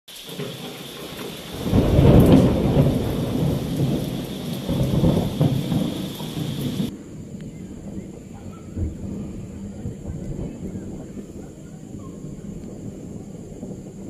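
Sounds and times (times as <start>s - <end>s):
steady rain: 0.1s - 14.0s
thunder rumbling: 0.1s - 14.0s.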